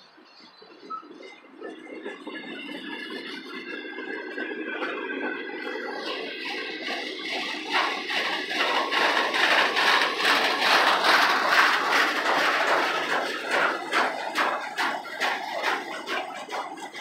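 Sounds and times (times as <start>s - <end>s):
freight train rolling rumble: 0.1s - 17.0s
train wheel clicks: 2.0s - 17.0s.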